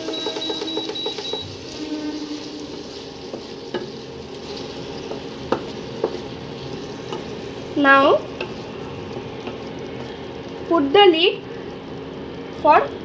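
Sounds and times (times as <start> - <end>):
food sizzling in a pan: 1.1 - 12.3.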